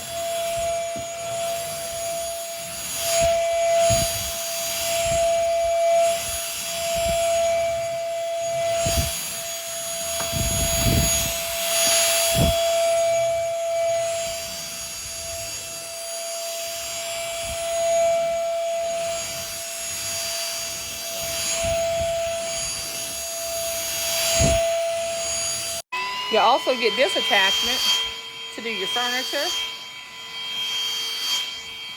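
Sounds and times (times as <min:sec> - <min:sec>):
vacuum motor whine: 0:00.0 - 0:31.9.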